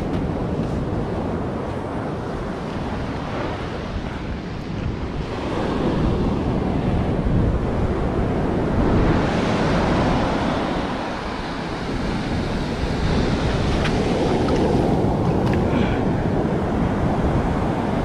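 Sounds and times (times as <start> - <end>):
small waves washing on sand: 0.0 - 18.0
wind buffeting microphone: 0.0 - 18.0.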